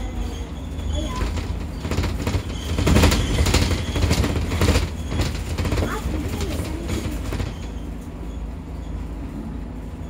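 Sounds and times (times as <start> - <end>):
bus body rattling: 0.0 - 10.0
bus engine and road rumble: 0.0 - 10.0.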